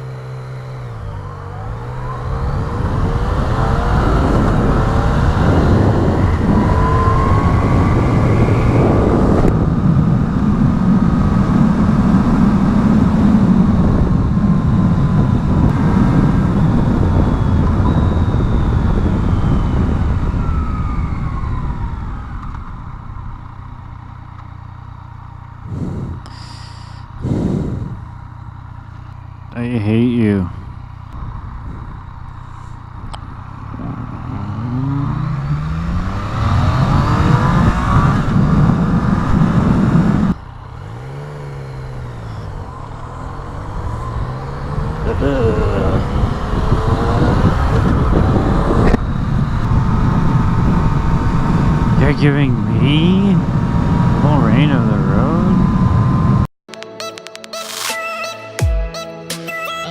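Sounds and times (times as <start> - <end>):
motorcycle engine revving: 0.0 - 56.5
wind rush: 1.0 - 23.5, 25.6 - 28.2, 30.3 - 56.5.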